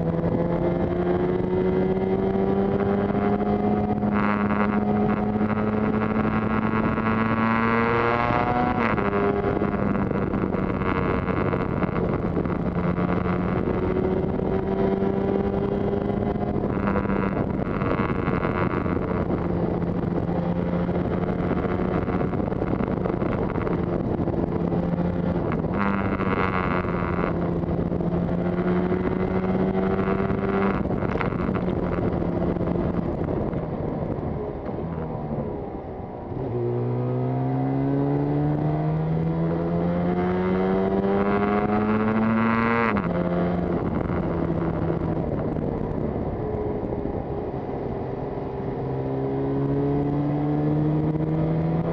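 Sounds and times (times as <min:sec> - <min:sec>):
motorcycle engine revving: 0:00.0 - 0:51.9
wind noise: 0:00.0 - 0:51.9.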